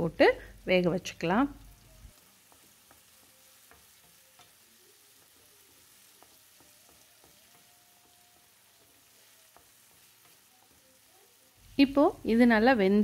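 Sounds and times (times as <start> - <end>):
vegetables sizzling in frying pan: 0.0 - 13.0.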